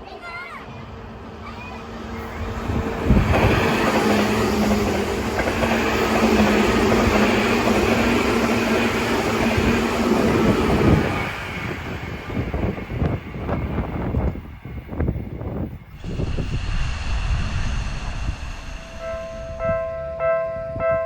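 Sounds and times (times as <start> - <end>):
electric train passing: 0.7 - 21.0.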